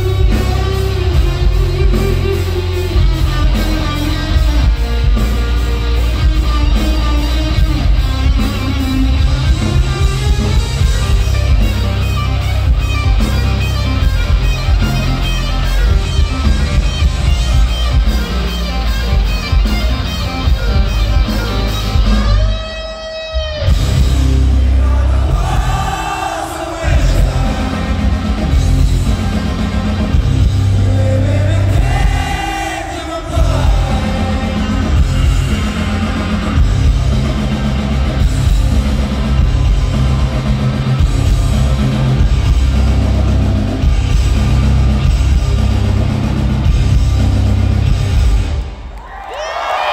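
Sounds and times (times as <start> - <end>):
live rock band playing: 0.0 - 49.0.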